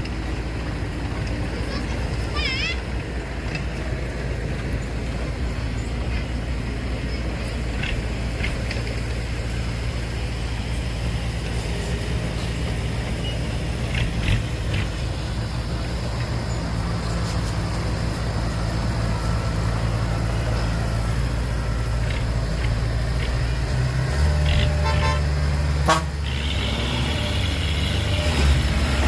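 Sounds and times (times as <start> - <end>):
diesel machinery engine rumbling: 0.0 - 29.0.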